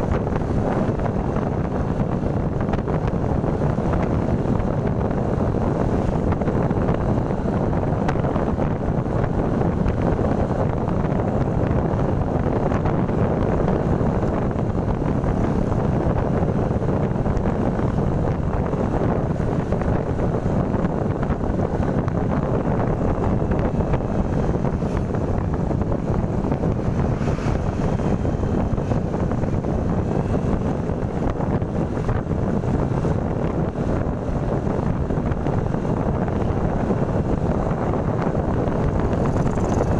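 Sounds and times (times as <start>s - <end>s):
motorcycle road and engine noise: 0.0s - 39.9s
wind rushing over microphone: 0.0s - 39.9s.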